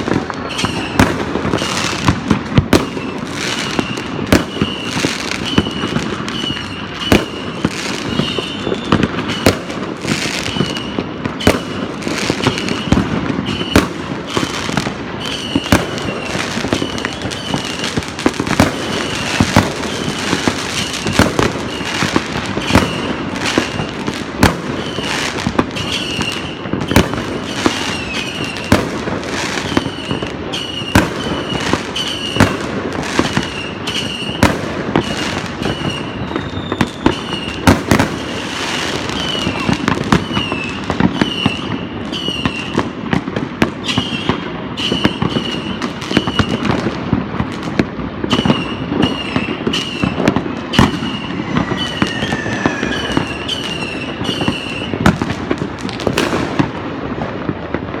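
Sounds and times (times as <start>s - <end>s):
distant fireworks bangs and crackling: 0.0s - 58.0s
loud firework blasts: 0.0s - 58.0s.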